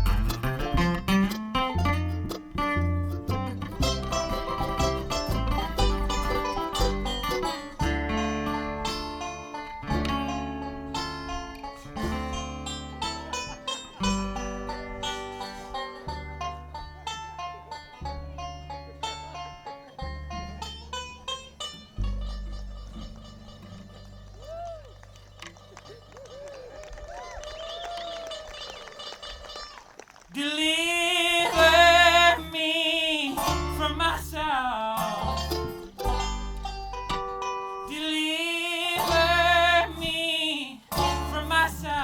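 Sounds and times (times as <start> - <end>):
bluegrass band playing: 0.0 - 42.0.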